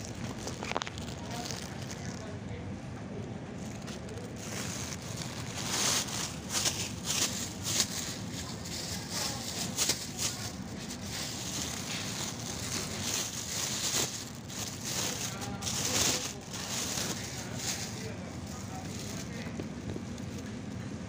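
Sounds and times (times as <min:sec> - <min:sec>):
plastic bag rustling and crinkling: 0:00.0 - 0:02.3, 0:03.6 - 0:20.5
shop background hum: 0:00.0 - 0:21.0.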